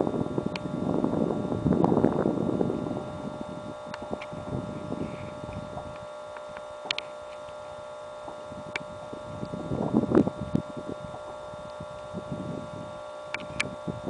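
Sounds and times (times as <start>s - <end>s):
fireworks rumble and crackling pops: 0.0s - 14.0s.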